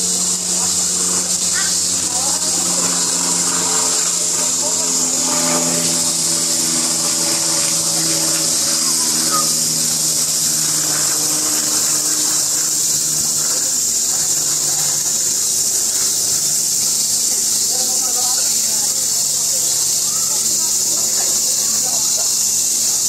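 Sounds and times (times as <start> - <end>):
cicadas chorus: 0.0 - 23.0.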